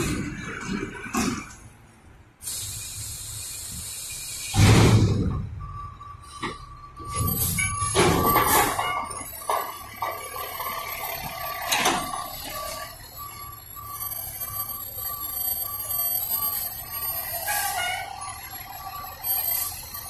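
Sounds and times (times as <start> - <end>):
diesel engine running: 0.0 - 20.0
backup alarm beeping: 2.5 - 20.0.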